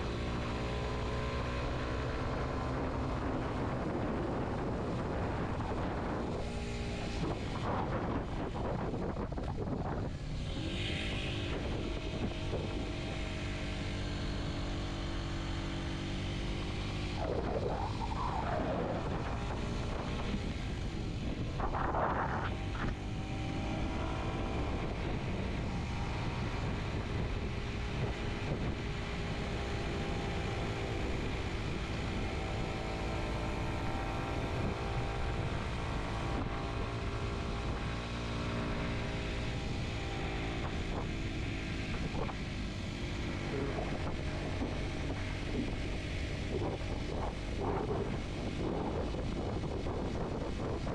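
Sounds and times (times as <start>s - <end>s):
motorcycle engine droning: 0.0s - 50.9s.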